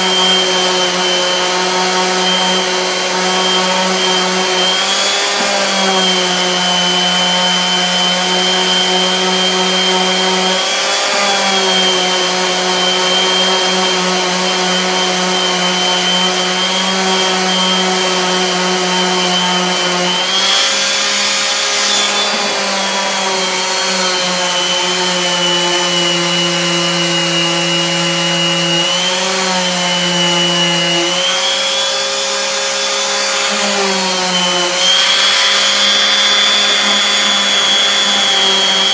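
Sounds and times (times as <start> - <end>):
electric sander whining: 0.0 - 38.9.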